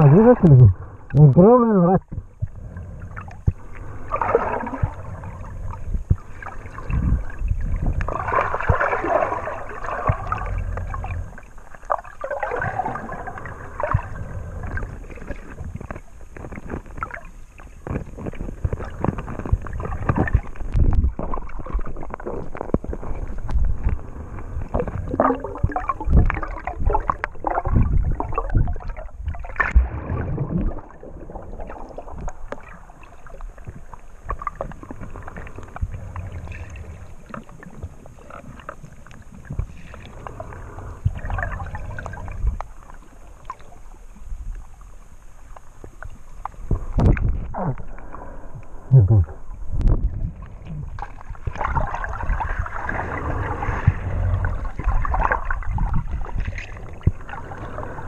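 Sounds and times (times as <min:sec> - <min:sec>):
underwater water sloshing: 0:00.0 - 0:58.0.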